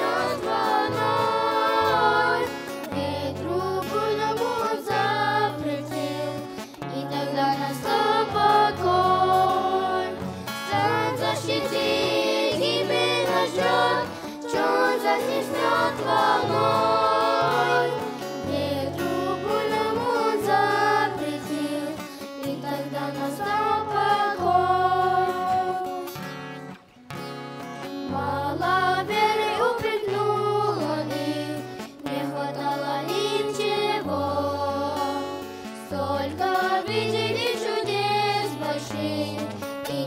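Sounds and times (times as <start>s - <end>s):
children singing in unison: 0.0s - 26.2s, 28.1s - 40.0s
acoustic guitar: 0.0s - 40.0s.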